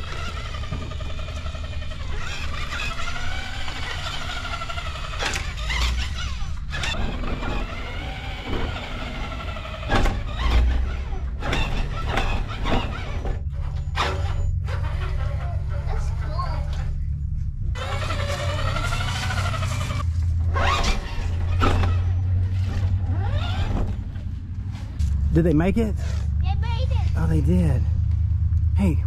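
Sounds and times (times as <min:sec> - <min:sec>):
sharp knocks and bumps: 0:00.0 - 0:16.9, 0:17.8 - 0:25.3
electric motors whining: 0:00.0 - 0:26.4.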